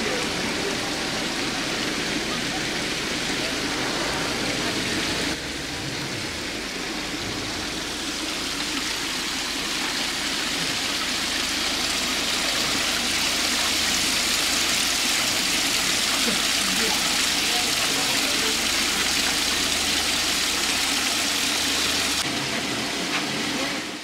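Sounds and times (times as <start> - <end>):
water flowing into tiled basin: 0.0 - 24.0.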